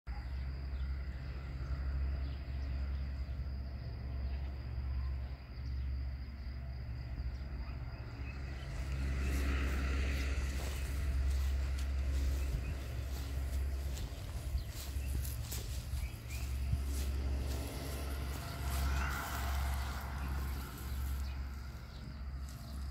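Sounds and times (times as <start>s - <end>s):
low uneven rumble: 0.7s - 22.9s.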